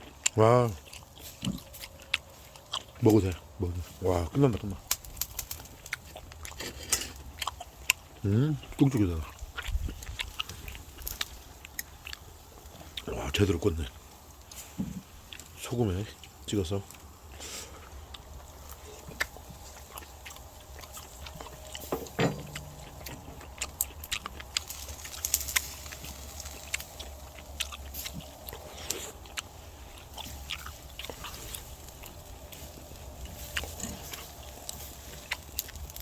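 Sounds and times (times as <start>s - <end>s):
person chewing with mouth smacks: 0.0s - 36.0s.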